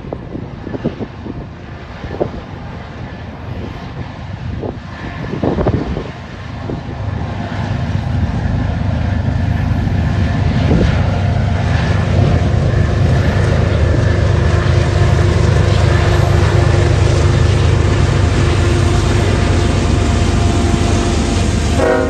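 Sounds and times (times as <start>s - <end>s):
locomotive engines rumbling: 0.0s - 22.0s
wind gusts on microphone: 0.0s - 22.0s.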